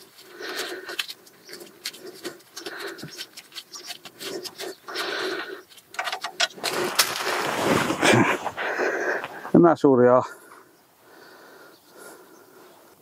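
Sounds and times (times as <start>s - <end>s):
man breathing heavily: 0.0s - 5.8s, 6.6s - 9.6s, 10.2s - 13.0s.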